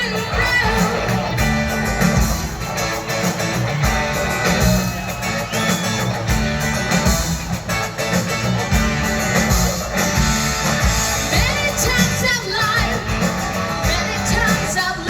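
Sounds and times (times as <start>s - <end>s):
bass: 0.0s - 15.0s
drums: 0.0s - 15.0s
electric guitar: 0.0s - 15.0s.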